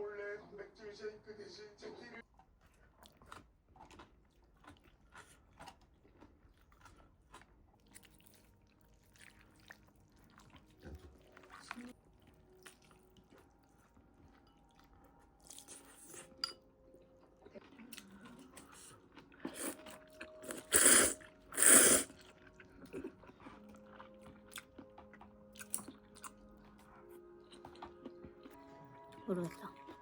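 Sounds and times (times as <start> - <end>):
person chewing crunchy food: 2.3 - 16.4, 17.2 - 28.6.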